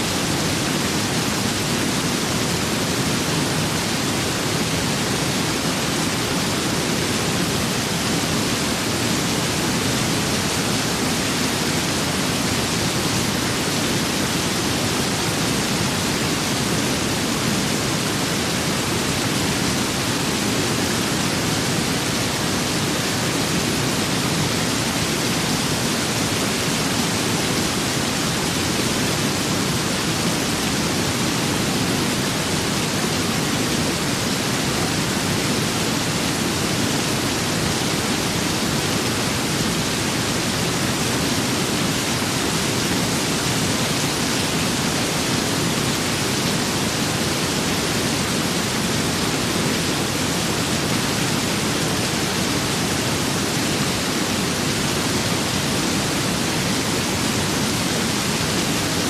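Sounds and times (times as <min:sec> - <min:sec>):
steady rain and wind: 0:00.0 - 0:59.0.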